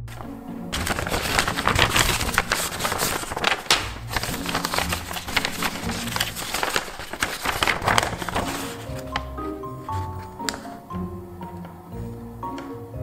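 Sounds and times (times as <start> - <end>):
paper crackling and rustling: 0.0 - 10.8
background music: 0.0 - 13.0.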